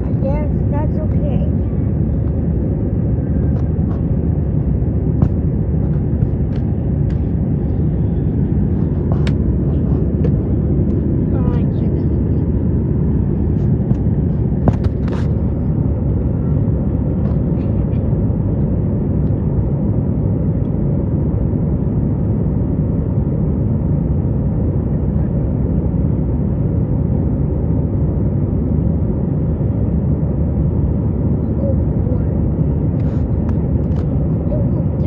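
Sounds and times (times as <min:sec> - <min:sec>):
airliner cabin rumble: 0:00.0 - 0:35.0.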